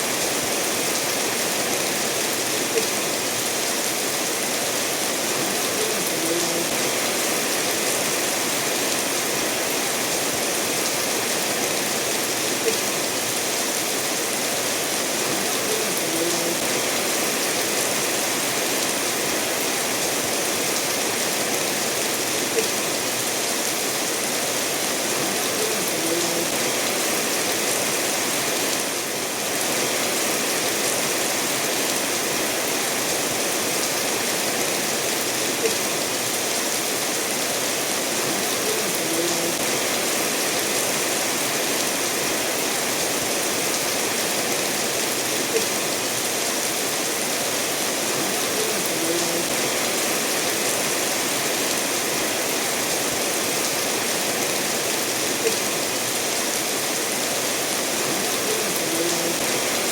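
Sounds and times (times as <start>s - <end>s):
steady rainfall: 0.0s - 59.9s
stream running over stones: 0.0s - 59.9s.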